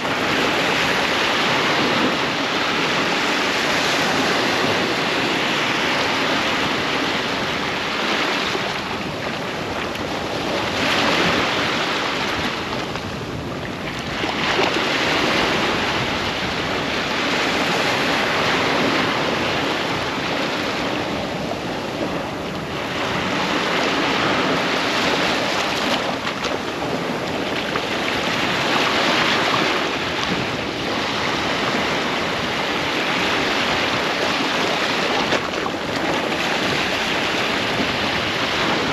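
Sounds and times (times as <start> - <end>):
ocean surf breaking on beach: 0.0 - 38.9.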